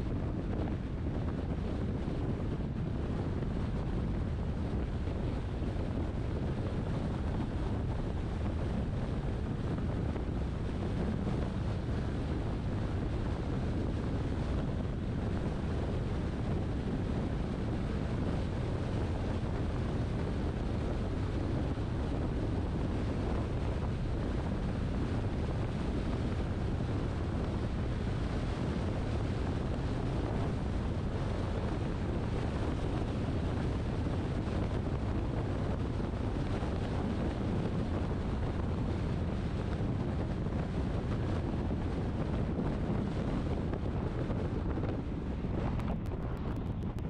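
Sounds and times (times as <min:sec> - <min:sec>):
wind on microphone: 0:00.0 - 0:47.0.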